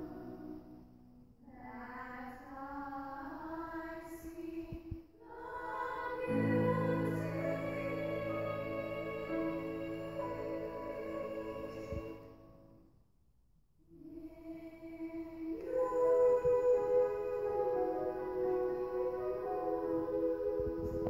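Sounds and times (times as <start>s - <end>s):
girls' choir singing: 0.0s - 0.8s, 1.6s - 12.4s, 14.0s - 21.0s.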